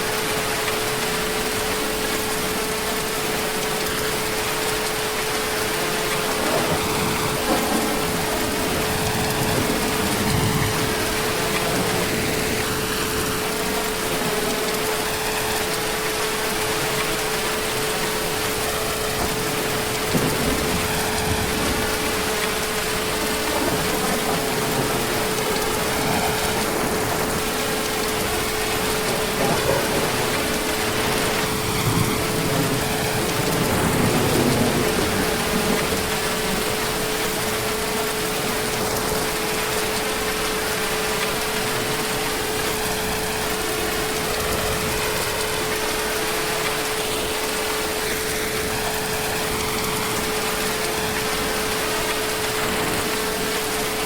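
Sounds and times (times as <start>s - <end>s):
constant steady hum: 0.0s - 54.0s
heavy rain: 0.0s - 54.0s.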